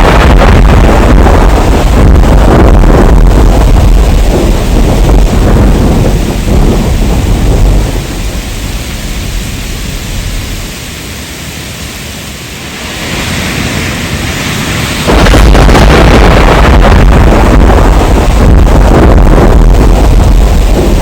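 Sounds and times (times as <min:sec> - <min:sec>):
loud deep rumbling: 0:00.0 - 0:12.0, 0:12.6 - 0:21.0
heavy rain: 0:00.0 - 0:21.0
thunder rumbling: 0:00.0 - 0:21.0.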